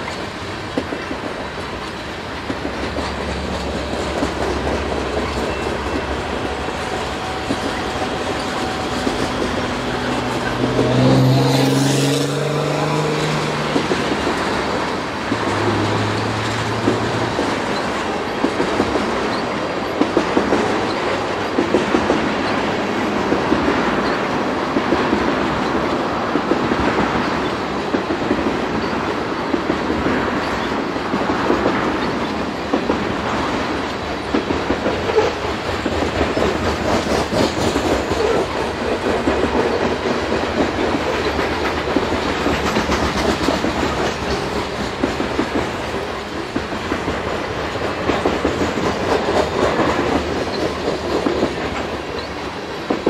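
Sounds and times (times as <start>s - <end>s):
train wheels clacking: 0.0s - 53.0s
train wheels rumbling on rails: 0.0s - 53.0s.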